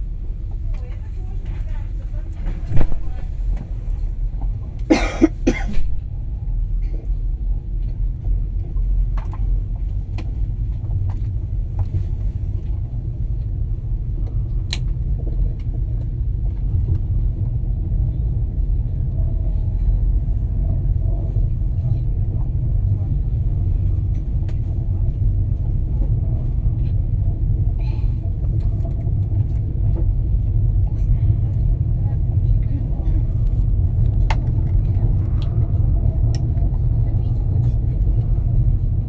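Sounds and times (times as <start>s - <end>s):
train rumble from inside carriage: 0.0s - 39.0s.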